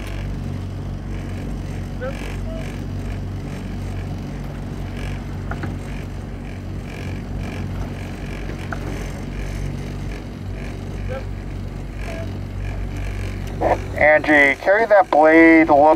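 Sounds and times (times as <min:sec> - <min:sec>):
outboard motor humming: 0:00.0 - 0:15.9.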